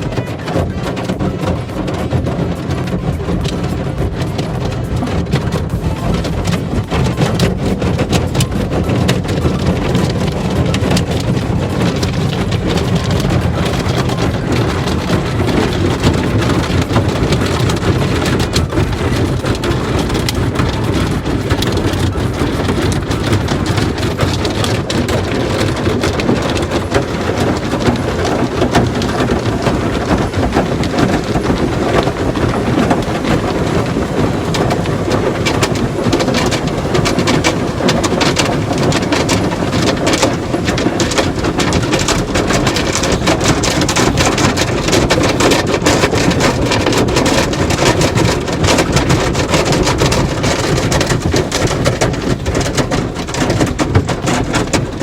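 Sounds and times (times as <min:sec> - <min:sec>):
water jets spraying onto car: 0:00.0 - 0:55.0.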